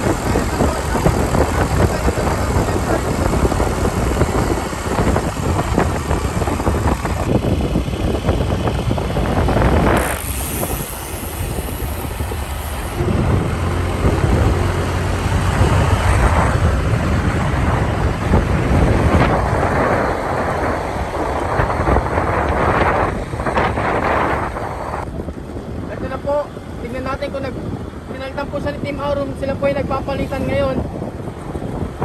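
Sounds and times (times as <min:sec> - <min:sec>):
vehicle engine running: 0:00.0 - 0:28.3
road and air noise: 0:00.0 - 0:32.0.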